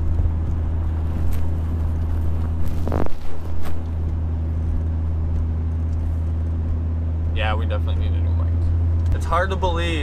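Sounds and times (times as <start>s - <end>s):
low exhaust drone in car cabin: 0.0s - 10.0s.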